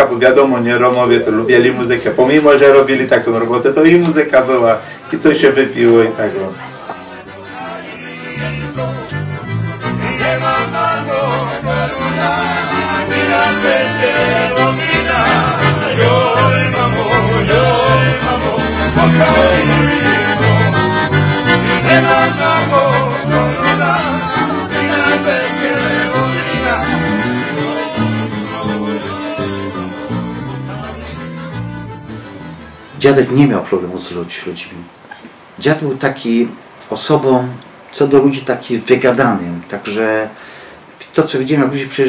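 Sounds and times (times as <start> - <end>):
lively accordion music: 0.0 - 34.2.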